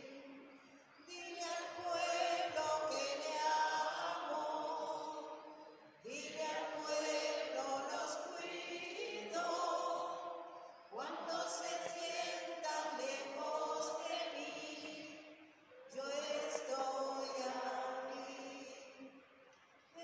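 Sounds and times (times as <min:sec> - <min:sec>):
voices singing a slow hymn: 0:00.0 - 0:20.0.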